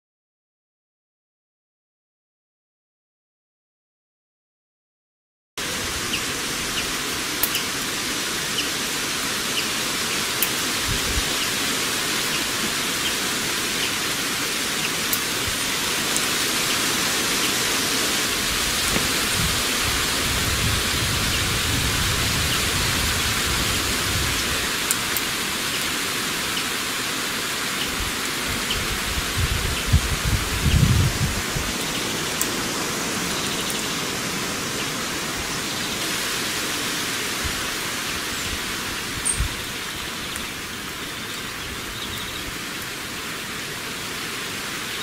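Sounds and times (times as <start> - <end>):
rain hissing: 5.6 - 45.0.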